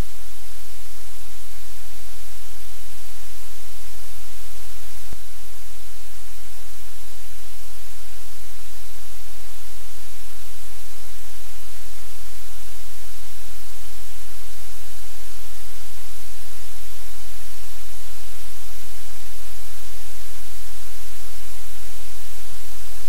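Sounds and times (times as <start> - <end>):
loud static hiss: 0.0 - 23.0.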